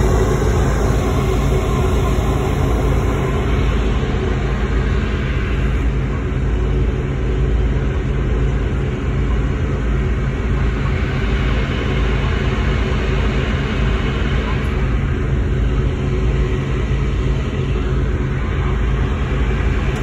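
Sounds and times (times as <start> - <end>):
ferry engines droning: 0.0 - 20.0.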